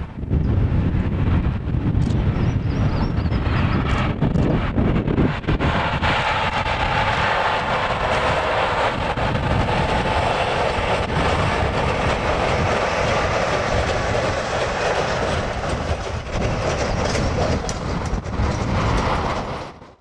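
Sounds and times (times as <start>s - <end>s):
steel wheels clickety-clack on track: 1.4s - 20.0s.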